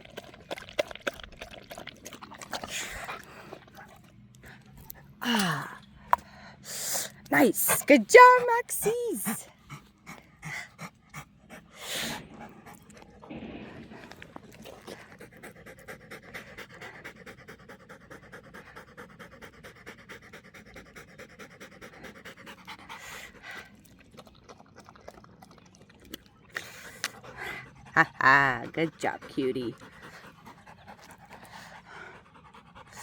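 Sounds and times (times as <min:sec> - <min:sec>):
dog panting: 0:00.0 - 0:25.8, 0:26.6 - 0:33.0.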